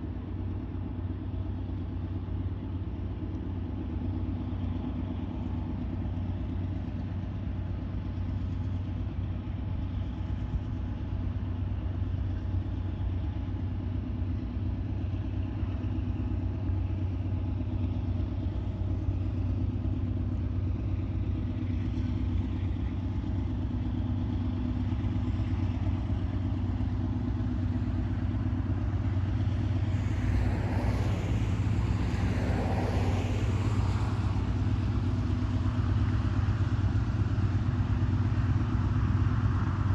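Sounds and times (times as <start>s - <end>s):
diesel locomotive engine droning: 0.0s - 39.9s.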